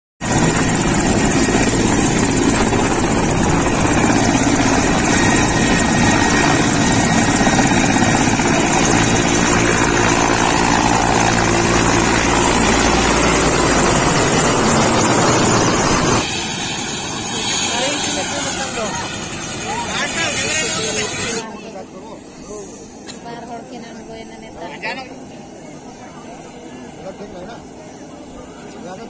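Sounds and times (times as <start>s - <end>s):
helicopter rotor and turbine noise: 0.2s - 29.0s.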